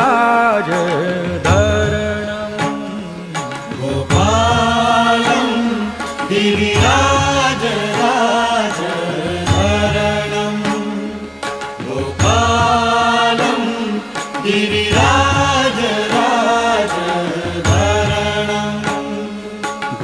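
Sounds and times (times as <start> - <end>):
person singing devotional chant: 0.0 - 20.0.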